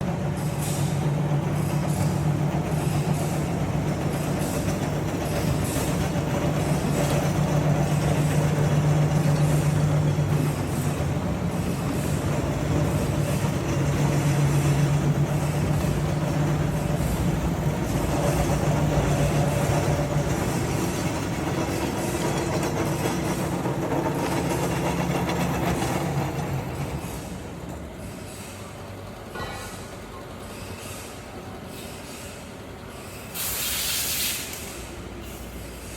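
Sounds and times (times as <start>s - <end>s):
heavy machine humming: 0.0s - 33.2s.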